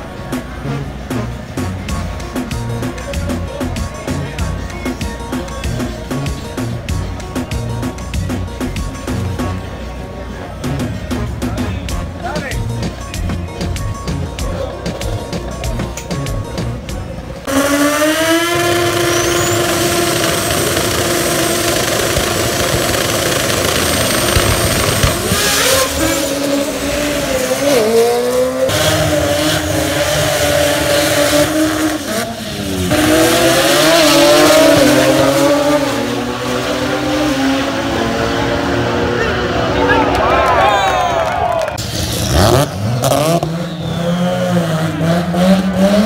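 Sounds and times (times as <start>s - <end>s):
racing car engine revving: 0.0s - 9.7s, 10.3s - 46.0s
racing car accelerating: 0.0s - 46.0s.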